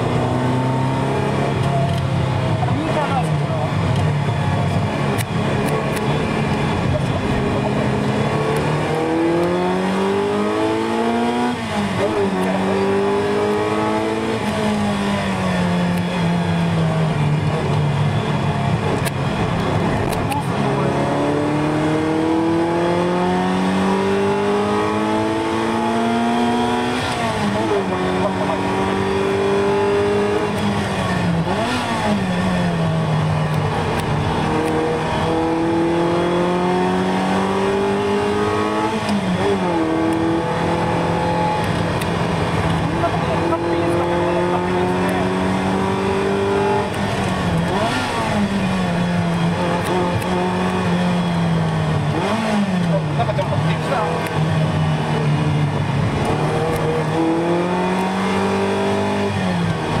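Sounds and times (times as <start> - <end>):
car engine pulling: 0.0 - 60.0.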